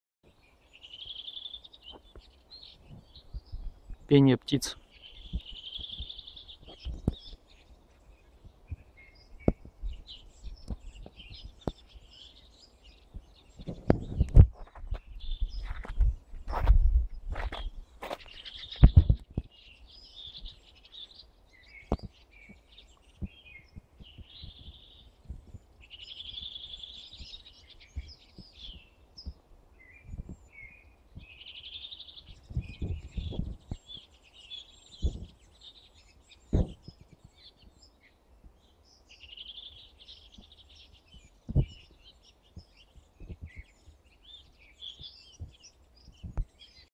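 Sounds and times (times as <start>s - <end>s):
songbirds singing: 0.2s - 46.9s.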